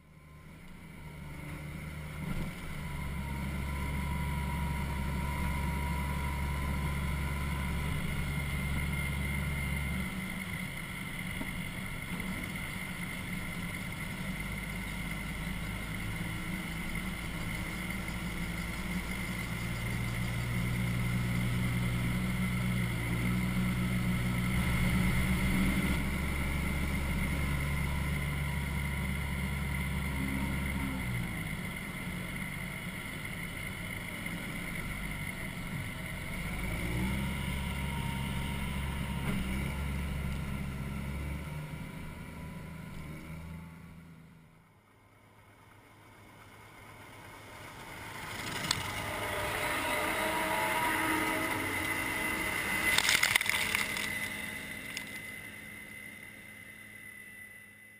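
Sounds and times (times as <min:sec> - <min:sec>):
auger whine: 0:00.0 - 0:45.0, 0:45.7 - 0:57.9
tractor engine running under load: 0:00.0 - 0:57.8.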